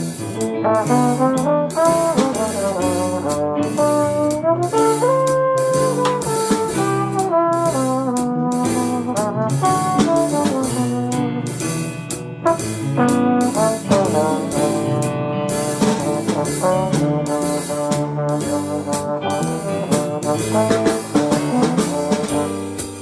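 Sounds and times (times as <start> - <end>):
drums: 0.0 - 23.0
piano: 0.0 - 23.0
trombone melody: 0.0 - 23.0
upright bass: 0.0 - 23.0.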